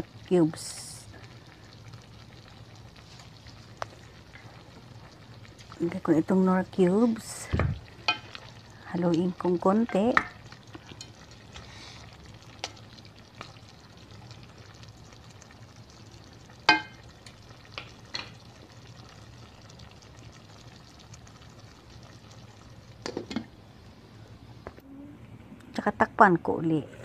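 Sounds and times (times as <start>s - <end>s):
faint sizzling: 0.0s - 27.0s
low steady hum: 0.0s - 27.0s.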